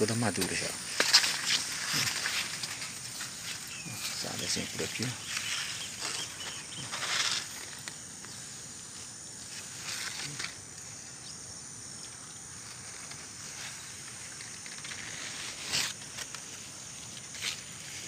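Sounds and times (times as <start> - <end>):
corn leaves rustling: 0.0 - 11.2, 12.0 - 18.0.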